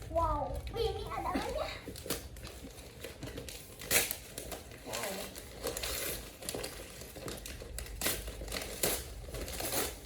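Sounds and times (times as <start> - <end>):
gift wrapping crinkling: 0.0 - 10.0.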